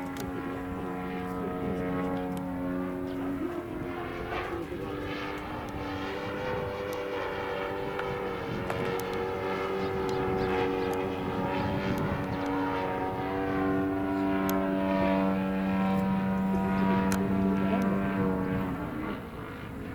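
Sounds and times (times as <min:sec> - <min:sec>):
model airplane motor and propeller: 0:00.0 - 0:19.9.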